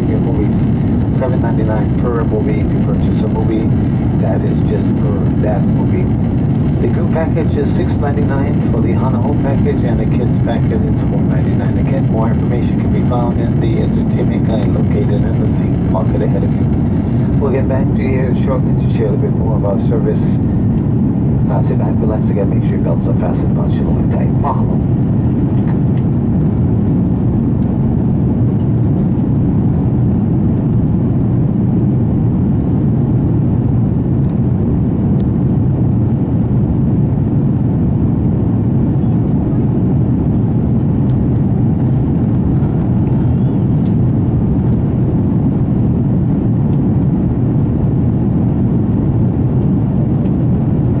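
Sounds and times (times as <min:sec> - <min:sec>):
airplane cabin engine rumble: 0:00.0 - 0:51.0.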